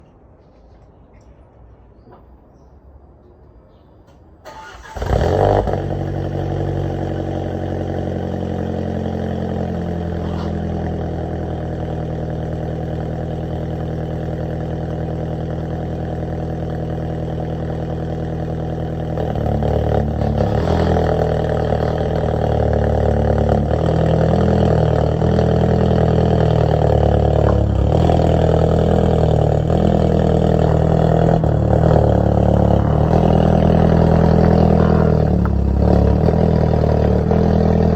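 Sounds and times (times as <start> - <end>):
car engine starting and idling: 4.1 - 37.9.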